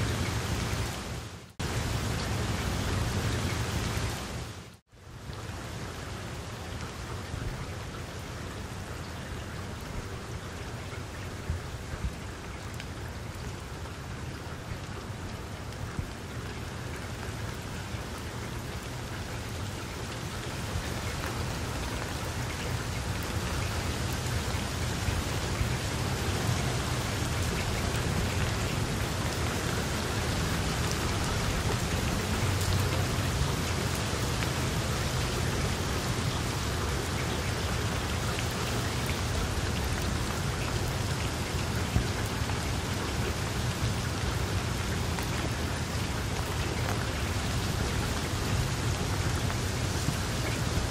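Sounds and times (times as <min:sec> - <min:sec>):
rain falling on water: 0:00.0 - 0:50.9.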